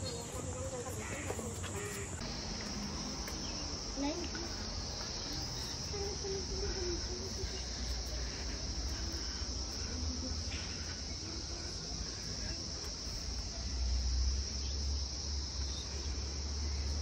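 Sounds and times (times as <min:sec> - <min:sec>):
faint voices: 0:00.0 - 0:15.0
insect chorus trilling: 0:00.0 - 0:17.0.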